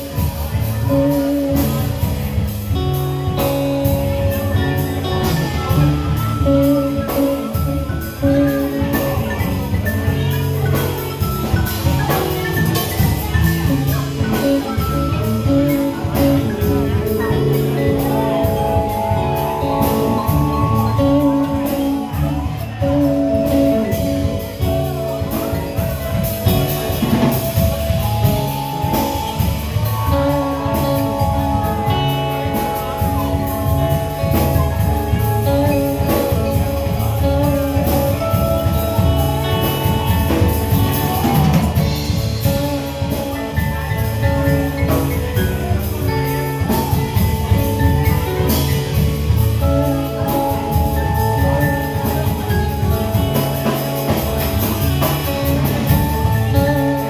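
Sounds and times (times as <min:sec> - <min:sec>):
drum kit: 0:00.0 - 0:57.0
electric bass line: 0:00.0 - 0:57.0
electric guitar: 0:00.0 - 0:57.0
mallet keyboard: 0:00.0 - 0:57.0.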